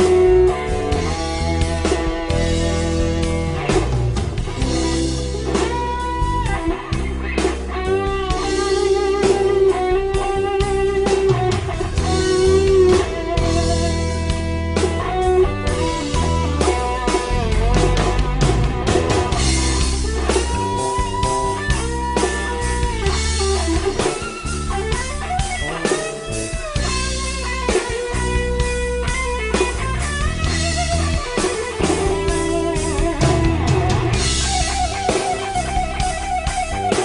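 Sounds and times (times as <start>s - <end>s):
bass and drums backing track: 0.0s - 37.0s
electric guitar solo: 0.0s - 37.0s.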